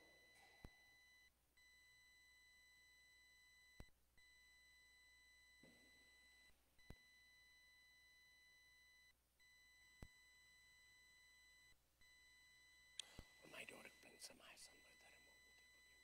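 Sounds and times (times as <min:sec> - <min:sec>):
faint high-pitched electronic tone: 0:00.0 - 0:16.0.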